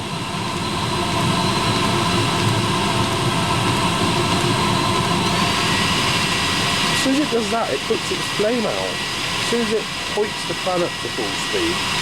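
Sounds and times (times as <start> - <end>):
diesel heater roaring: 0.0 - 12.0.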